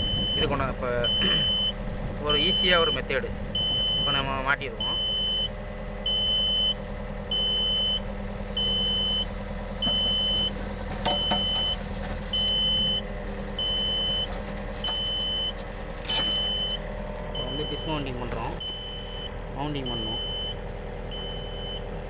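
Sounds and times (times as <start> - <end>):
high warning beeps: 0.0 - 5.5, 6.1 - 11.8, 13.6 - 14.3, 14.9 - 16.8, 17.4 - 21.8
diesel engine running: 0.0 - 22.0.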